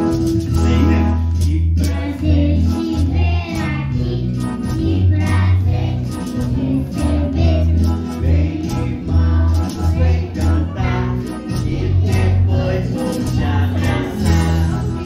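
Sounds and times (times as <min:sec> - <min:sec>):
children singing a song: 0:01.8 - 0:14.6.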